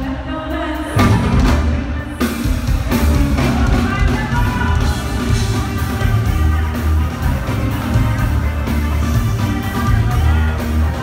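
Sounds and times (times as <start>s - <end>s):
live rock band playing loud: 0.0s - 11.0s.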